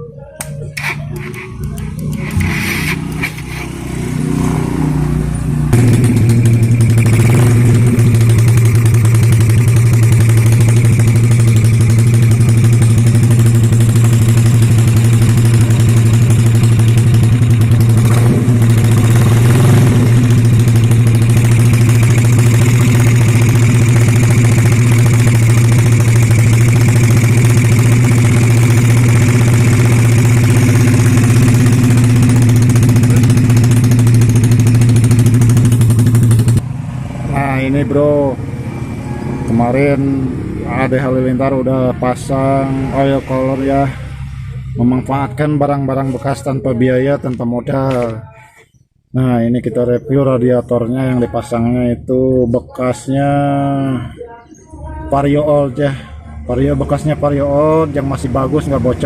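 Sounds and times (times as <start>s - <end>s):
scooter engine running: 0.4s - 48.2s, 55.7s - 59.0s.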